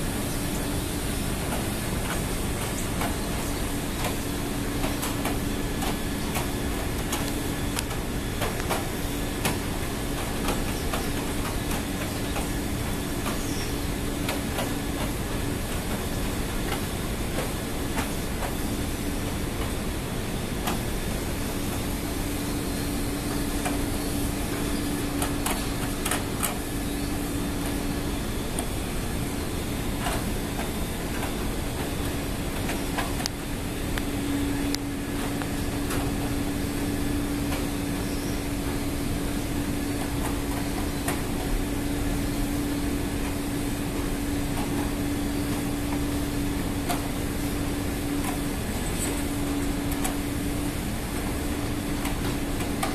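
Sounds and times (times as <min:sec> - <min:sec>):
machinery drone: 0:00.0 - 0:52.9.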